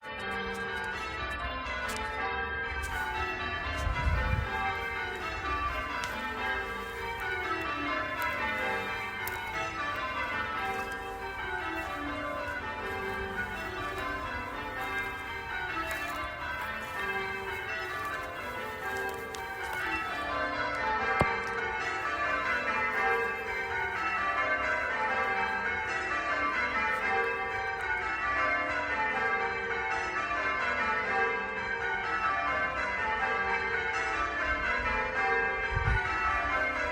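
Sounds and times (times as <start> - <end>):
church bells pealing: 0.0 - 36.9.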